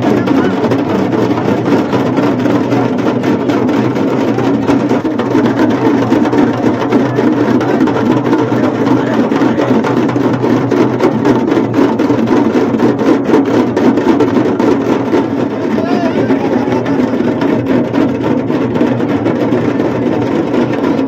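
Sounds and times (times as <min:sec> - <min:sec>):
large drums beaten with sticks: 0:00.0 - 0:21.0.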